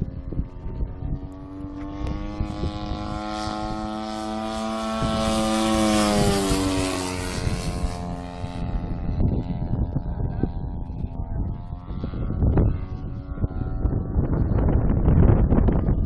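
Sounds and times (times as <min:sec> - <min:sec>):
model plane engine and propeller drone: 0:00.0 - 0:16.0.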